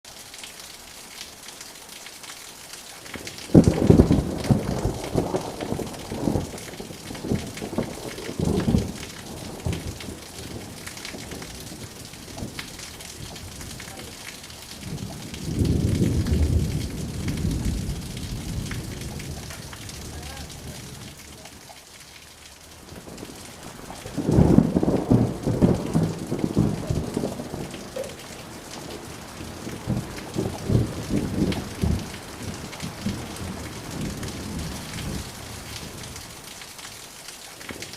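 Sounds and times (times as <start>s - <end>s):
steady rain: 0.0s - 37.9s
thunder rumbling: 3.5s - 21.7s, 22.8s - 36.4s.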